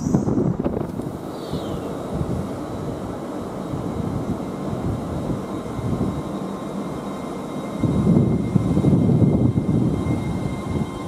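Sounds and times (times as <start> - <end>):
faint high whine: 0.0 - 11.0
train rumbling: 0.0 - 11.0.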